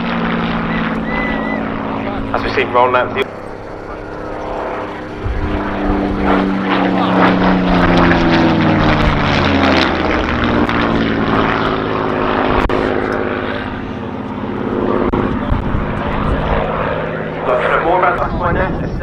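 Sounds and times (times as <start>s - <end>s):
propeller plane flying past: 0.0s - 19.0s.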